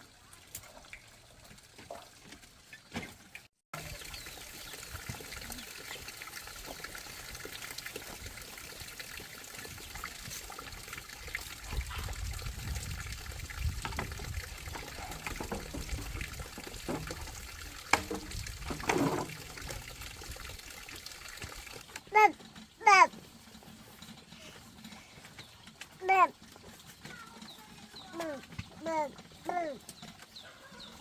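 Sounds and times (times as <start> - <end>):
water running and trickling: 0.0 - 31.0.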